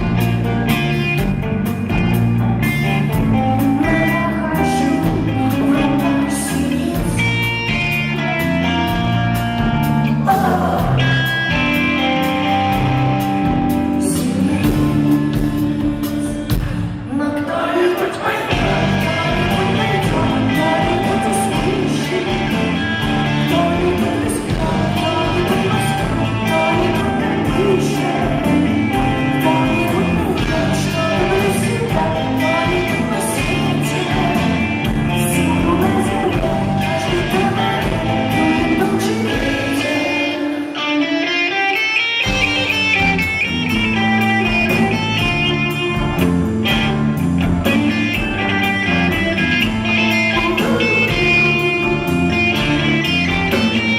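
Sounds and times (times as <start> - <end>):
electric guitar: 0.0 - 53.9
rock band playing live: 0.0 - 53.9.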